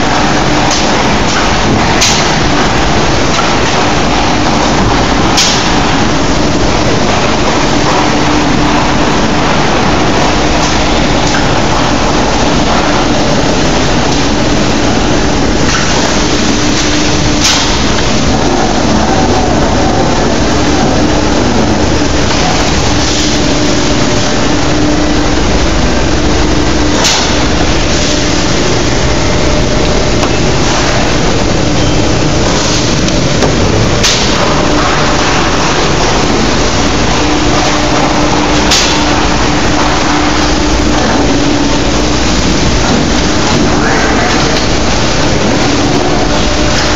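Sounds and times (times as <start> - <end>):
industrial machinery drone: 0.0 - 46.9.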